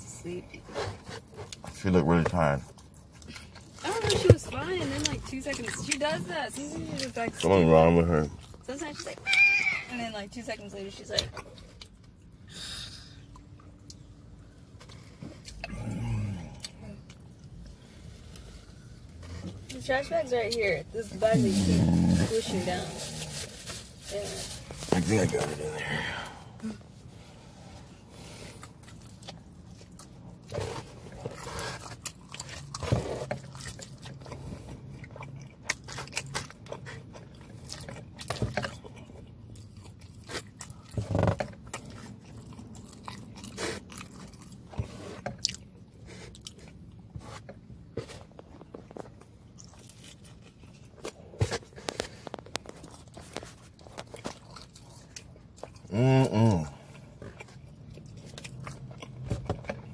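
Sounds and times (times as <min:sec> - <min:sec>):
chewing and biting pizza: 0:00.4 - 0:59.9.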